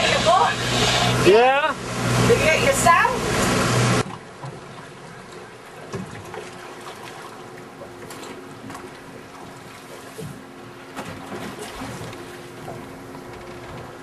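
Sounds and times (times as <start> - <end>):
water trickling along hull: 0.0 - 14.0
wind: 0.0 - 14.0.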